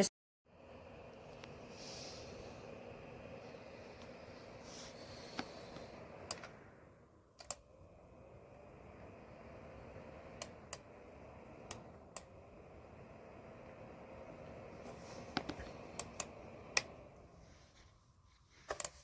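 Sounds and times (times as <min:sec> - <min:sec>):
heater fan humming: 0:00.0 - 0:19.0.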